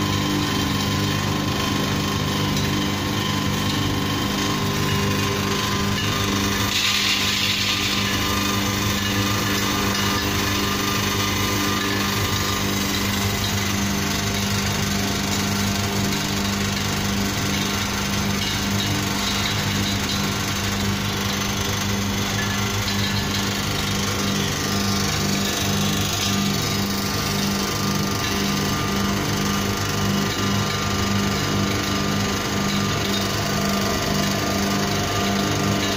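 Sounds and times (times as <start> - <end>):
grinding noise: 0.0 - 35.9
oil press motor humming: 0.0 - 35.9.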